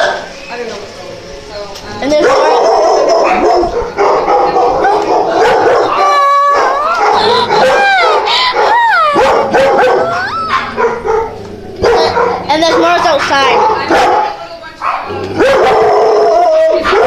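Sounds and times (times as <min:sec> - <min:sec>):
dogs barking: 0:02.1 - 0:17.0
dogs yelping and howling: 0:02.2 - 0:17.0.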